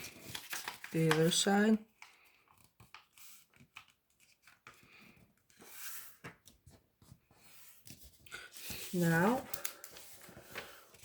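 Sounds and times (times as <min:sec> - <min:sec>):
paper rustling and folding: 0:00.0 - 0:11.0.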